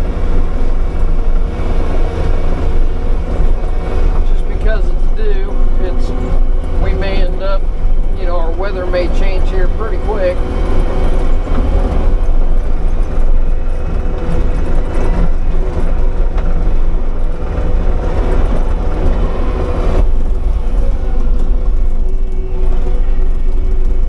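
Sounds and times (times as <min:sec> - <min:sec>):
diesel engine and brush cutter drone: 0:00.0 - 0:24.0.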